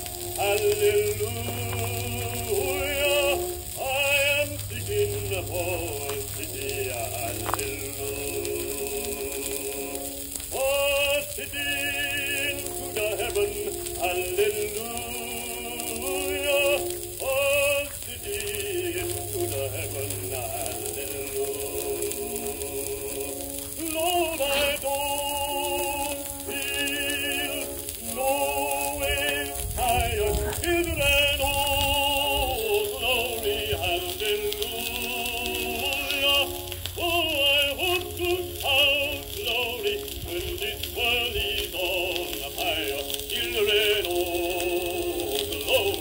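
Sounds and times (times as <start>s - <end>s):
steady hiss: 0.0s - 46.0s
person singing a spiritual: 0.3s - 46.0s.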